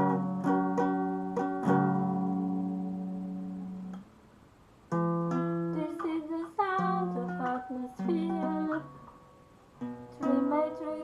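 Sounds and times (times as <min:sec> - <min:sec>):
acoustic guitar strumming: 0:00.0 - 0:04.1, 0:04.9 - 0:11.0.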